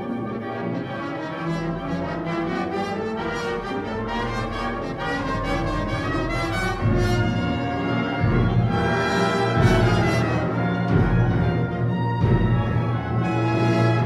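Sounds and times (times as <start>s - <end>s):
wind band playing sustained chords: 0.0s - 14.0s.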